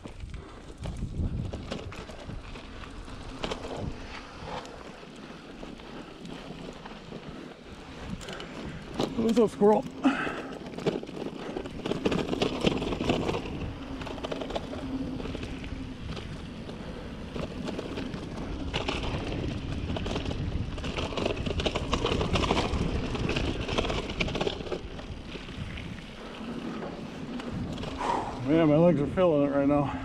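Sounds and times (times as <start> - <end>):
bike clattering over bumps: 0.0 - 30.0
bike tyres on dirt: 0.0 - 30.0
wind buffeting microphone: 0.0 - 30.0.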